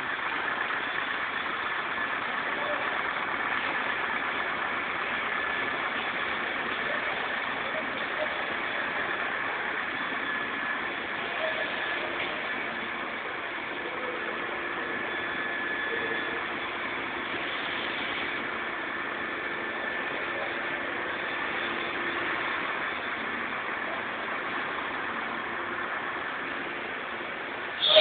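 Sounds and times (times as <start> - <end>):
faint steady whine: 0.0 - 28.0
forklift engine running: 0.0 - 28.0.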